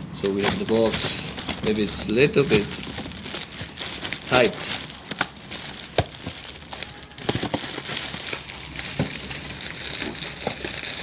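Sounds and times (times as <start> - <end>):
plastic wrap crinkling: 0.1 - 11.0.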